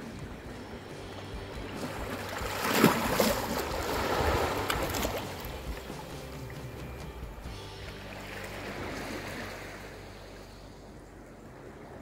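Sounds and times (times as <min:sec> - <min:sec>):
sea waves on rocky shore: 0:00.0 - 0:12.0.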